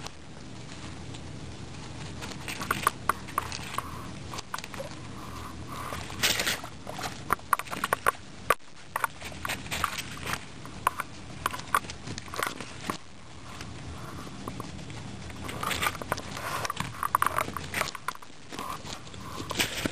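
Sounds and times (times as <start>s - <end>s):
guinea pigs crunching carrot: 0.0s - 19.9s.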